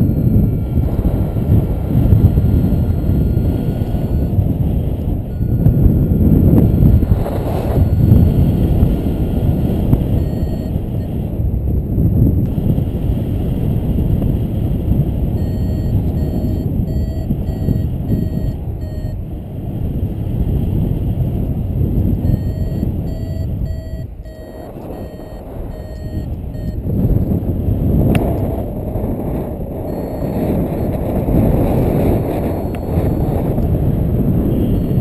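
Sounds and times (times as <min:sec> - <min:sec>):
variometer beeping: 0:00.0 - 0:11.4, 0:15.1 - 0:19.2, 0:22.1 - 0:35.0
wind rushing over microphone: 0:00.0 - 0:35.0.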